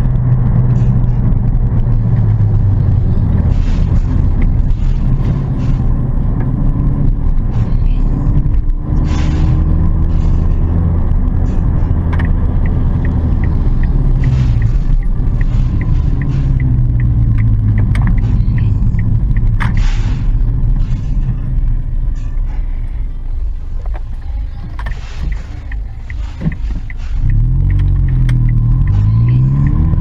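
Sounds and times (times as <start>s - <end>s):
car engine hum: 0.0s - 30.0s
road rumble: 0.0s - 30.0s.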